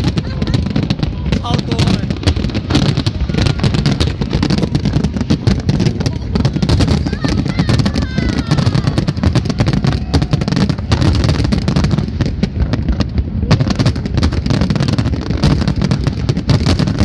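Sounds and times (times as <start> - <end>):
deep fireworks booms: 0.0 - 17.0
fireworks bangs and crackles: 0.0 - 17.0.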